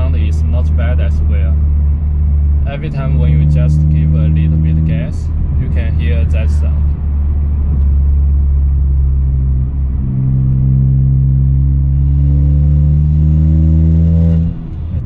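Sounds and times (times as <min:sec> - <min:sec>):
car engine revving from inside cabin: 0:01.9 - 0:05.9, 0:06.9 - 0:15.0.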